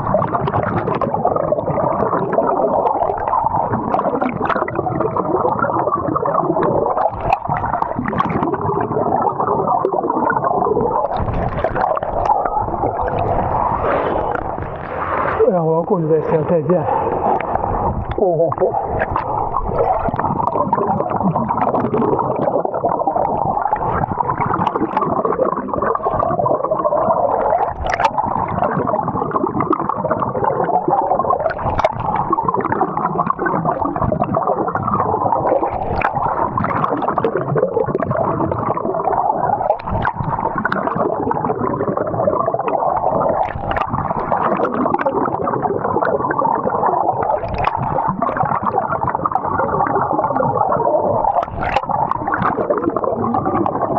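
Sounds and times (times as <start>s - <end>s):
water gurgling and sloshing: 0.0s - 53.9s.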